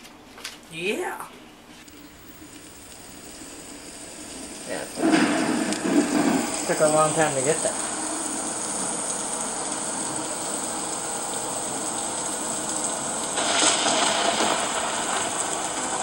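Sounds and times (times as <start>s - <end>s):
record stylus hiss: 1.7s - 16.0s.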